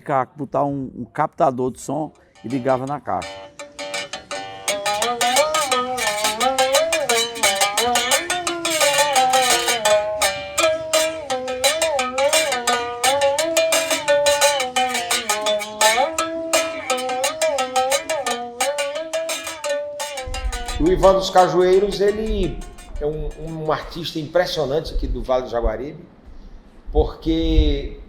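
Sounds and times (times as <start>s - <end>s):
berimbau melody with sliding glass: 2.2s - 24.7s.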